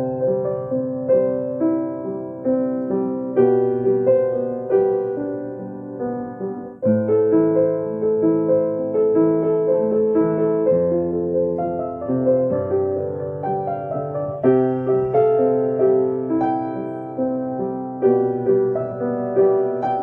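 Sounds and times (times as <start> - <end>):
soft piano piece: 0.0 - 20.0.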